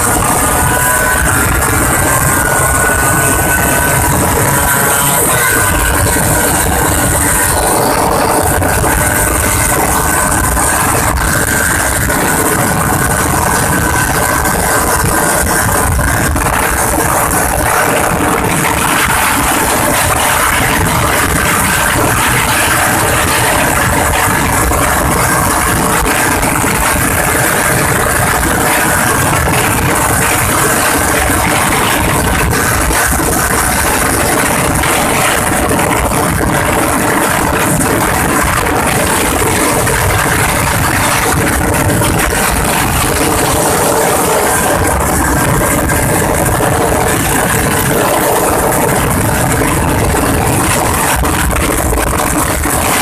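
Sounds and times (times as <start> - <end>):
auto-rickshaw engine running: 0.0 - 53.0
loud steady rush of noise: 0.0 - 53.0.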